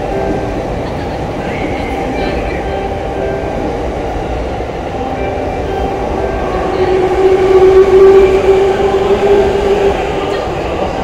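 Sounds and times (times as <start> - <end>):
electric train passing: 0.0 - 11.0
train whine: 0.0 - 11.0.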